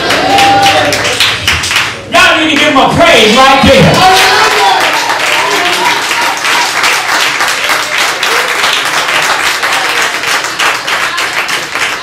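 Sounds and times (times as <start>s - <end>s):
congregation applauding: 0.0s - 2.0s, 3.9s - 12.0s.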